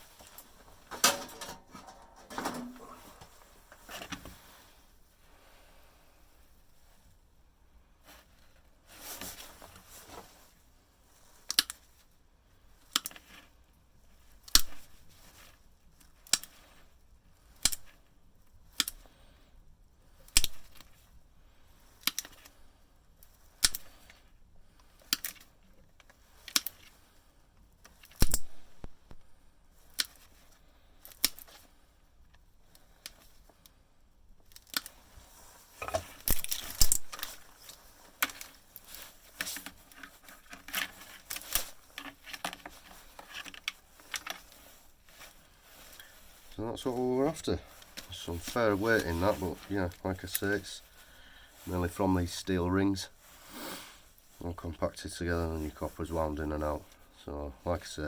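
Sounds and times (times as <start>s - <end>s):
rustling handling noise: 0.0s - 58.0s.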